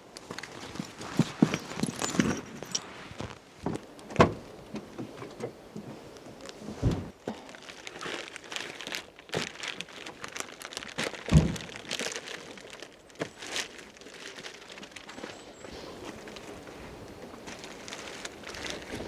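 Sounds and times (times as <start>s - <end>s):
rustling and crinkling: 0.0s - 19.0s.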